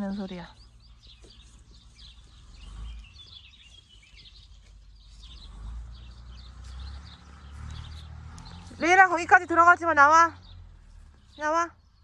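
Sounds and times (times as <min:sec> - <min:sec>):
distant tractor rumble: 0:00.0 - 0:12.0
small birds chirping: 0:00.0 - 0:12.0.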